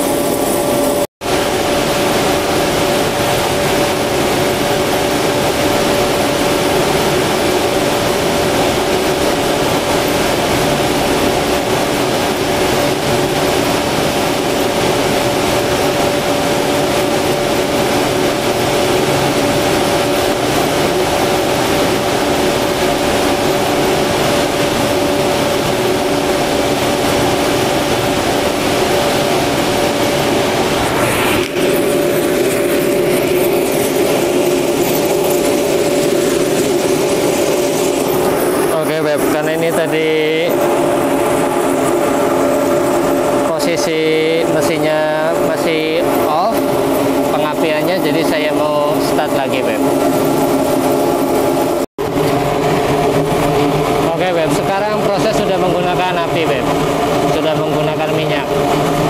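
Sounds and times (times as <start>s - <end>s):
constant machinery hum: 0.0s - 59.0s
rushing blower noise: 0.0s - 59.0s.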